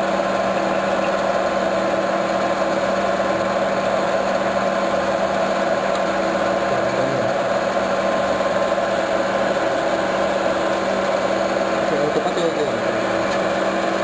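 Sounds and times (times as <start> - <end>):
lathe tool cutting metal: 0.0 - 14.0
metal lathe humming: 0.0 - 14.0.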